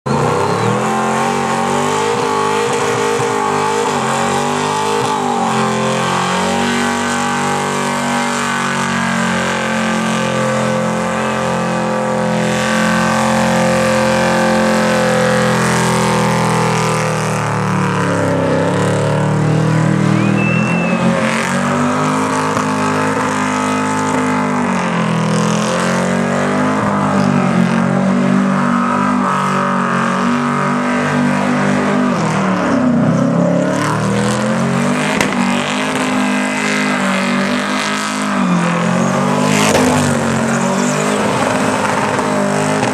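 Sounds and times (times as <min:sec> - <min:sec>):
van engine at high revs: 0:00.0 - 0:42.9.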